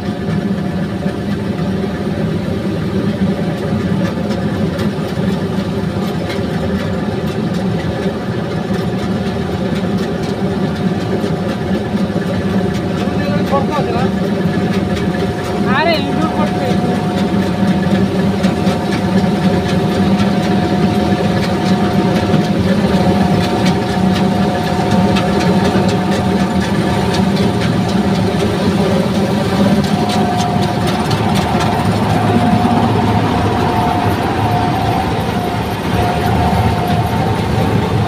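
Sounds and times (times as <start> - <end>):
combine harvester engine drone: 0.0 - 38.0
machinery whine: 0.0 - 38.0.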